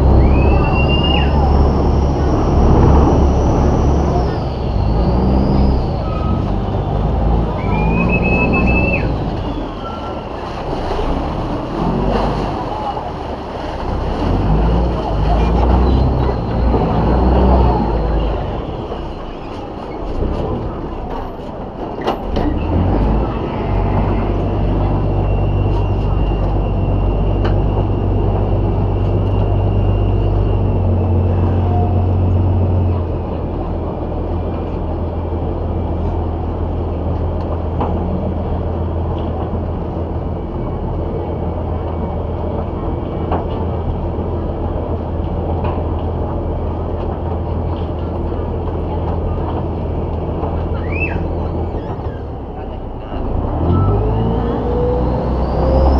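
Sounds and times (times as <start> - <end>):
boat diesel engine humming: 0.0 - 55.9
passengers' voices: 0.0 - 55.9.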